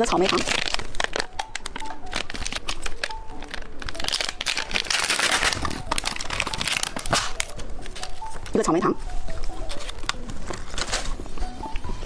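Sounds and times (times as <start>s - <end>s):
plastic wrapper crinkling: 0.0s - 8.6s, 9.4s - 11.9s.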